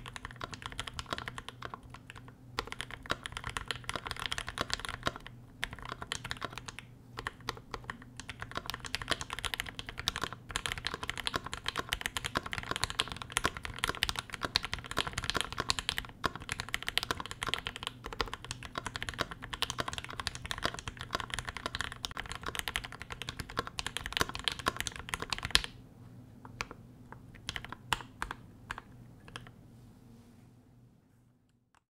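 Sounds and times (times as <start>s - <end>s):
keyboard typing: 0.0s - 25.8s, 26.5s - 29.6s.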